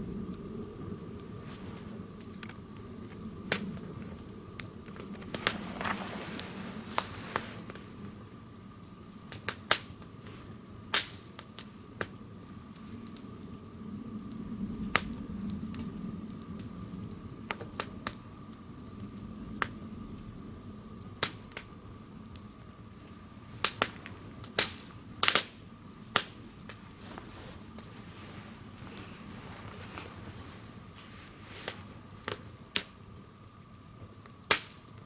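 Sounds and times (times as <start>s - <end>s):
burning wood popping: 0.0s - 35.0s
wood fire crackling: 0.0s - 35.0s.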